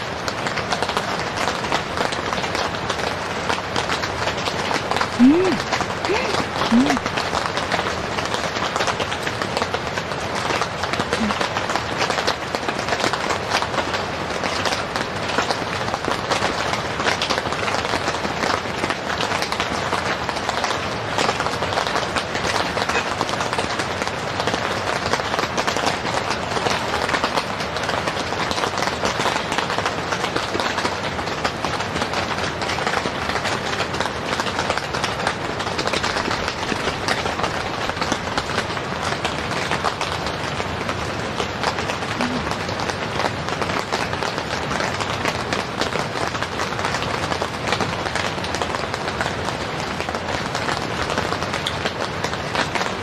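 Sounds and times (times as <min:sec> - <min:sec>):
heavy rain on a tent: 0:00.0 - 0:53.0.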